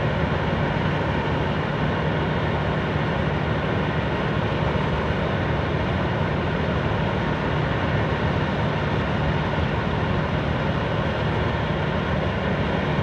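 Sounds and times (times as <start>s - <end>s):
low machinery drone: 0.0s - 13.0s.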